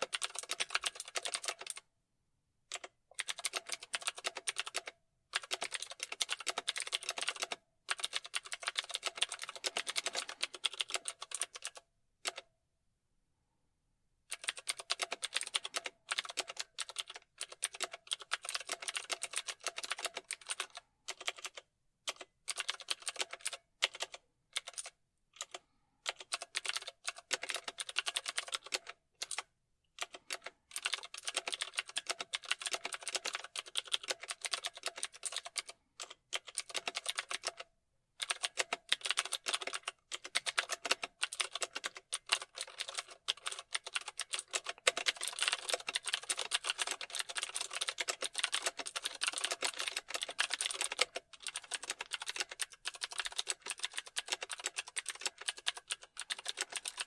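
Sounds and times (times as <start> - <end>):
typing on computer keyboard: 0.0 - 1.9, 2.7 - 12.5, 14.3 - 57.0.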